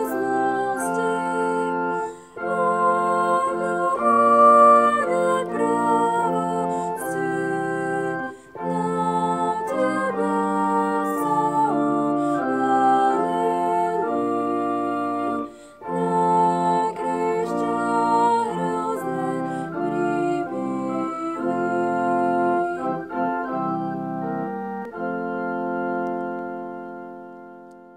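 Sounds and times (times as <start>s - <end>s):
organ playing held chords: 0.0s - 27.9s.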